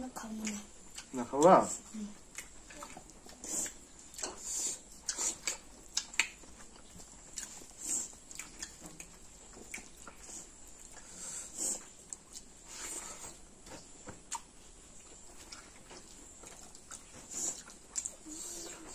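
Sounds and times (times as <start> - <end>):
wet chewing and lip smacks: 0.2 - 18.9.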